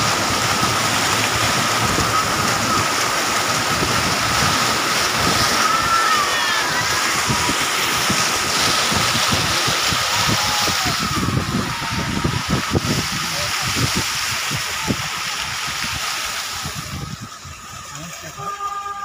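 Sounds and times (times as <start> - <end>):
water spraying around car: 0.0 - 19.0.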